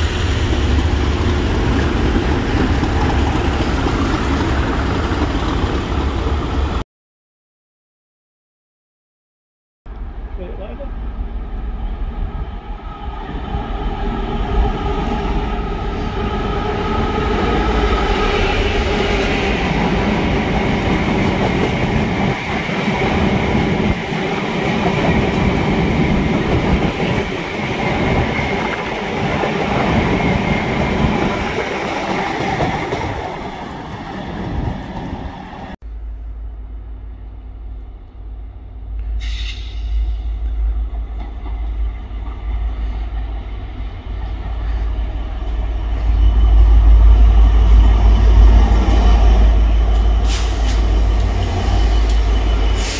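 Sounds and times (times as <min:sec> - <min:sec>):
diesel locomotive engine: 0:00.0 - 0:06.8, 0:09.9 - 0:52.9.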